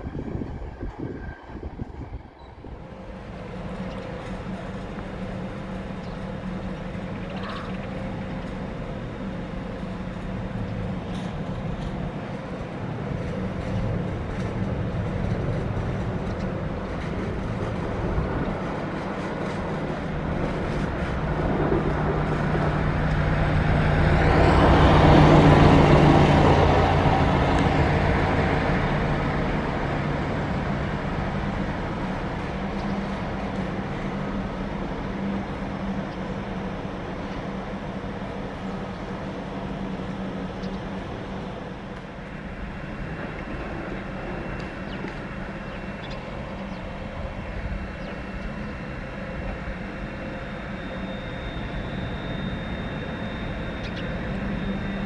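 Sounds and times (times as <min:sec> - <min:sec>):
train running past: 0:00.0 - 0:55.0.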